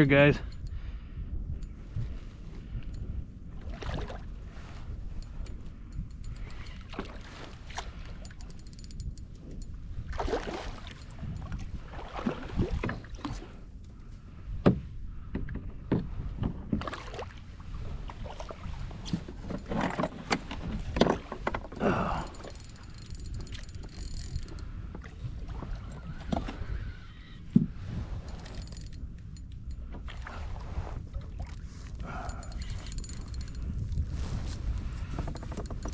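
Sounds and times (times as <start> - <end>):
wind rumble on microphone: 0.0 - 35.9.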